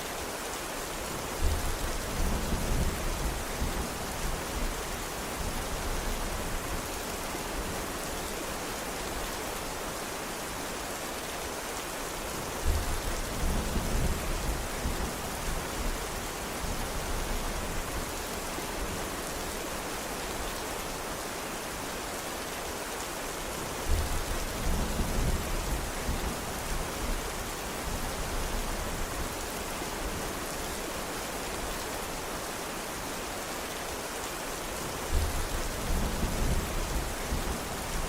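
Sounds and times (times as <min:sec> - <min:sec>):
dense rainfall hissing: 0:00.0 - 0:38.0.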